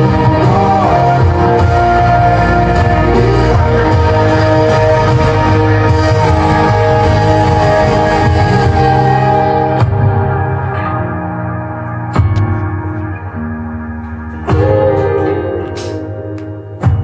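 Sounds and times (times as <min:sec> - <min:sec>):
loud music with strong bass: 0:00.0 - 0:17.0.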